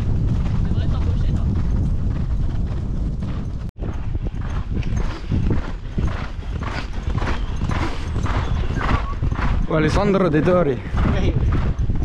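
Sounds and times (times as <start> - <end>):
horse hoofbeats galloping on dirt: 0.0 - 12.0
wind on microphone: 0.0 - 12.0.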